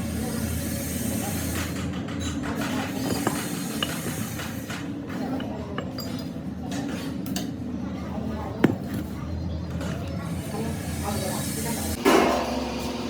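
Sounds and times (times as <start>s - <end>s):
workshop machinery rumbling: 0.0s - 13.0s.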